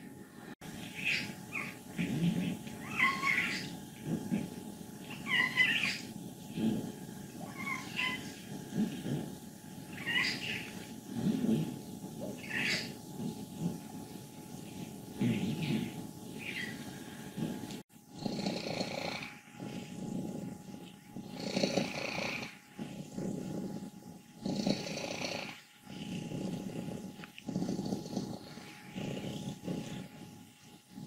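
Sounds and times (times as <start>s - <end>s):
cat purring with rattle: 0.0s - 31.0s.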